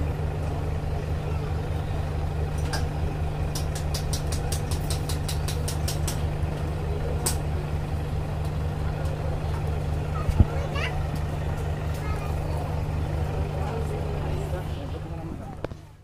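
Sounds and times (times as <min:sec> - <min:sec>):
train diesel engine idling: 0:00.0 - 0:16.0.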